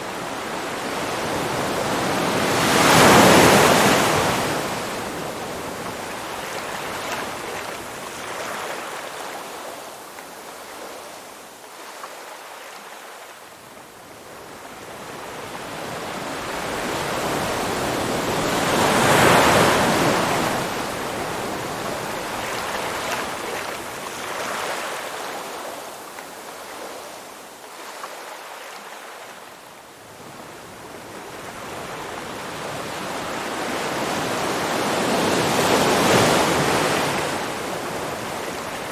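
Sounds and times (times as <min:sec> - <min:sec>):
ocean waves washing onto shore: 0:00.0 - 0:38.9.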